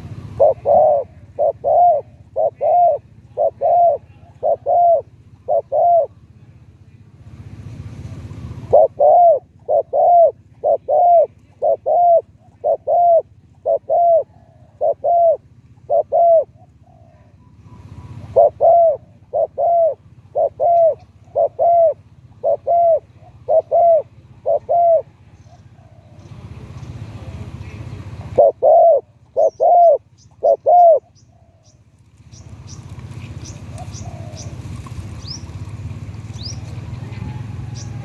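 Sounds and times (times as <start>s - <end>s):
dove cooing: 0.0s - 6.6s, 8.4s - 26.4s, 27.2s - 31.8s, 32.6s - 38.0s
low steady hum: 0.0s - 38.0s.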